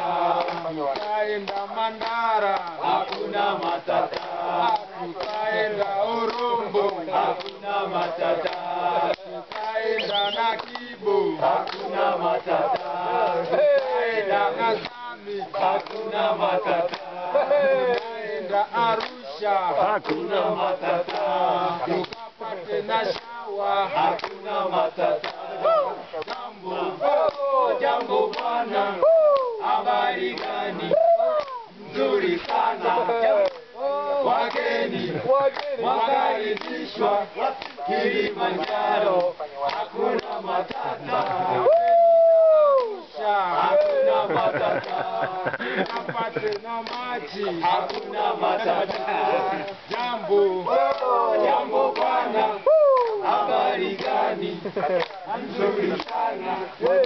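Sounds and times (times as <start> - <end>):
men singing in chorus: 0.0 - 57.0.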